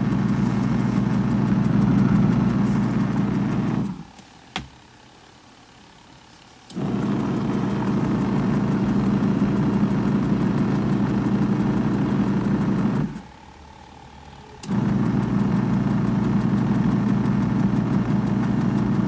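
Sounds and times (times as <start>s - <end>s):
washing machine motor humming: 0.0s - 19.0s.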